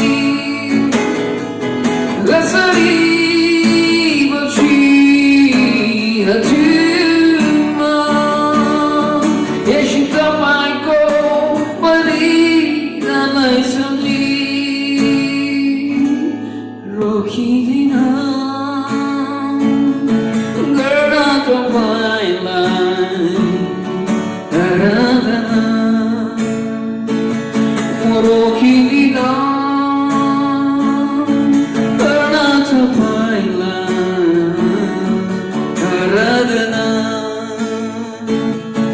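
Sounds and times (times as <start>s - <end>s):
person singing: 0.0s - 26.8s, 27.8s - 38.9s
acoustic guitar: 0.0s - 38.9s.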